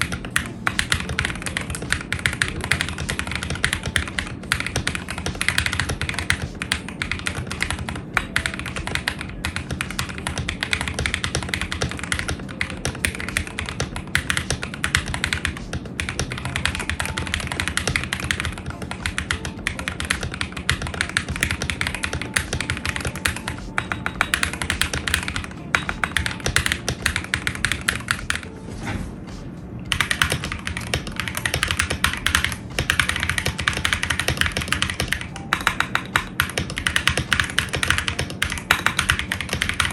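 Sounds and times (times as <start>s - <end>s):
mechanical keyboard typing: 0.0s - 28.5s, 29.9s - 39.9s.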